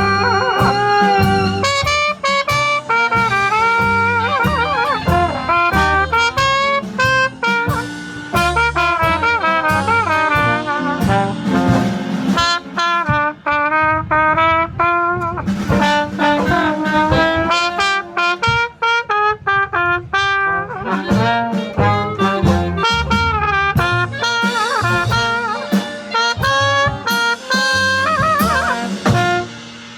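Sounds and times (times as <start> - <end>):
wind instrument bending notes: 0.0 - 29.7
blues band playing: 0.0 - 29.9.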